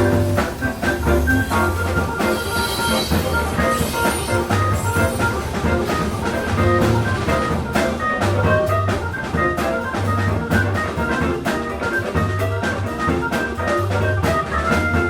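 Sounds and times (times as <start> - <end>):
instrumental jazz-funk music: 0.0 - 15.0.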